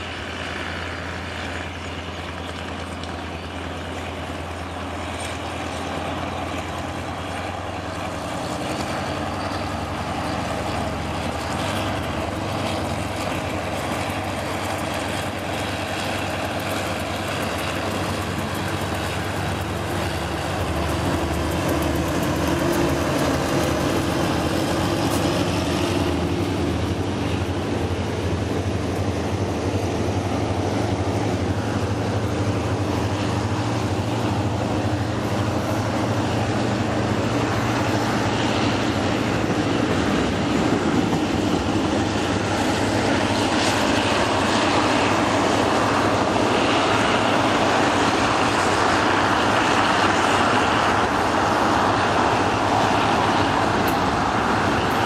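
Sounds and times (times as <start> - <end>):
diesel locomotive engine drone: 0.0 - 55.0
freight wagons rolling on steel wheels: 0.0 - 55.0.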